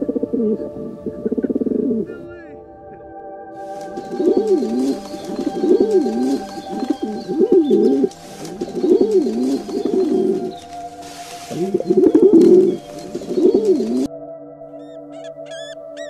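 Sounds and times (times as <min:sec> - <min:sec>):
pigeons cooing: 0:00.0 - 0:02.2, 0:03.6 - 0:14.1, 0:14.8 - 0:16.0.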